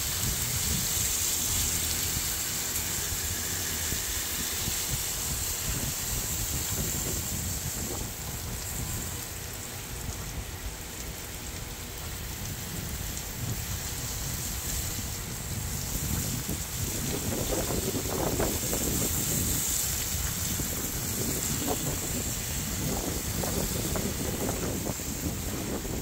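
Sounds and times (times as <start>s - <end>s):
water spraying on plants: 0.0s - 26.0s.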